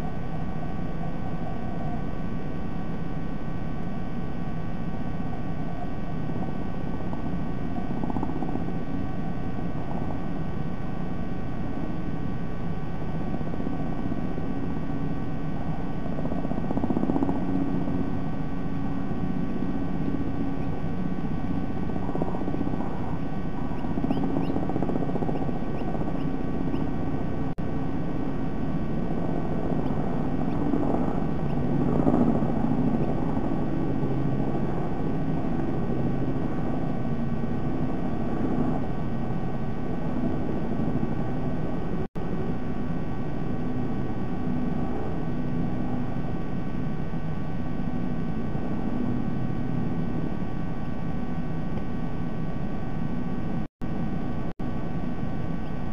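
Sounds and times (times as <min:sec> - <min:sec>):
faint electrical hum: 0:00.0 - 0:55.9
rumbling outdoor background noise: 0:00.0 - 0:55.9.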